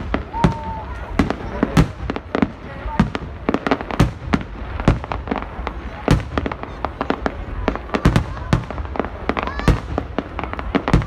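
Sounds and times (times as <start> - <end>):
fireworks bangs and crackles: 0.0 - 11.0
heavy fireworks booms: 0.0 - 11.0.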